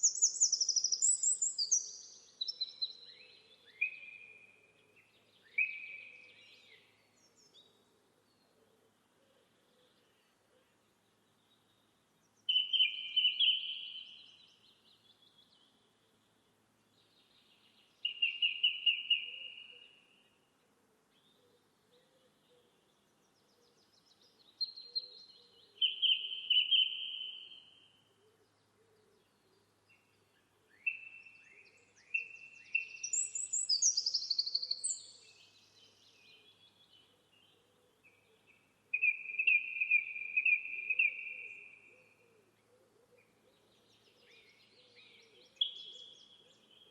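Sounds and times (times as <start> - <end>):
faint outdoor background: 0.0 - 46.9
songbird singing: 0.0 - 46.9.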